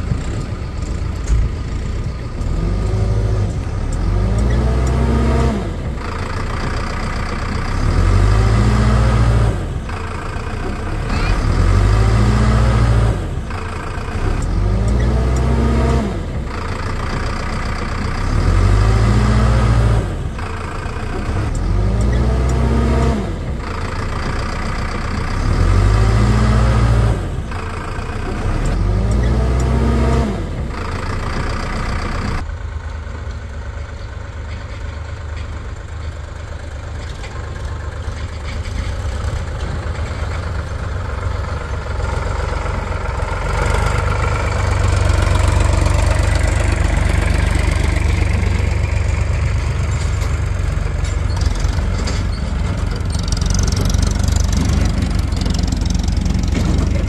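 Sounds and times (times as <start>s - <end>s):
engine revving: 0.0s - 32.5s, 37.0s - 57.0s.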